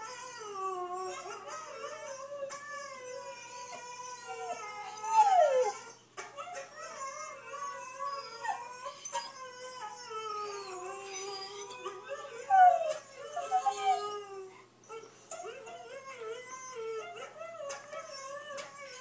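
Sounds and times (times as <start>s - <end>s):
dog howls from video playback: 0.0s - 19.0s
husky howling and whining: 0.0s - 19.0s.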